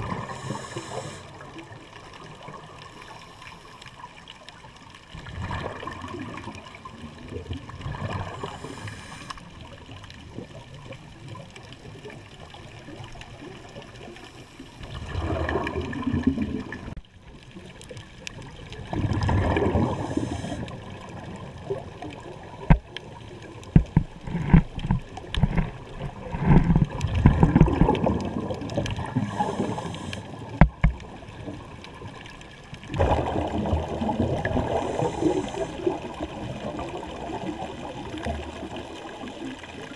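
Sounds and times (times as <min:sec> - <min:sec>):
exhaled bubbles gurgling underwater: 0:00.0 - 0:39.9
low water hiss: 0:00.0 - 0:39.9.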